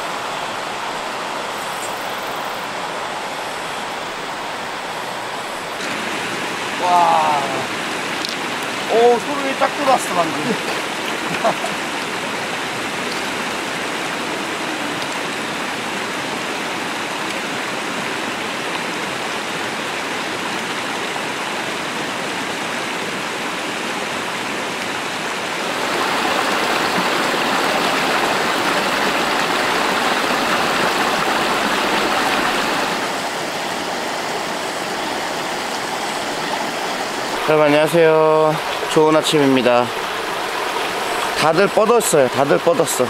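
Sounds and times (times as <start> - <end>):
stream water running: 0.0 - 43.0.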